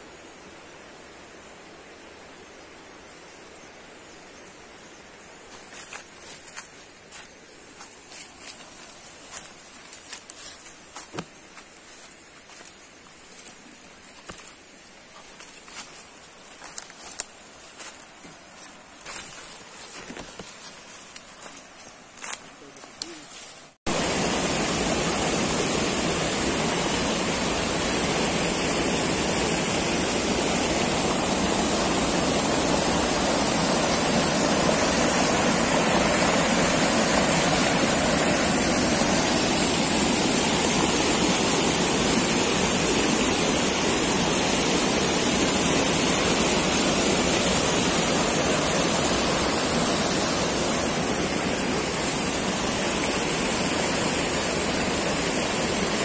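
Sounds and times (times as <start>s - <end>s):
stream rushing over rocks: 5.5s - 56.0s.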